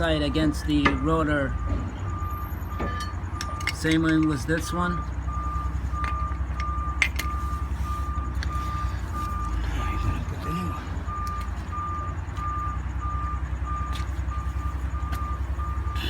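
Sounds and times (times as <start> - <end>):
truck backup alarm beeping: 0.0 - 16.0
truck engine rumble: 0.0 - 16.0.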